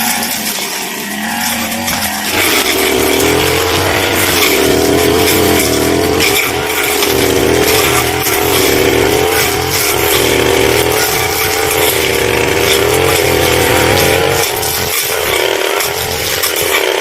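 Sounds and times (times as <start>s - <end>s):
brush cutter running: 0.0s - 17.0s.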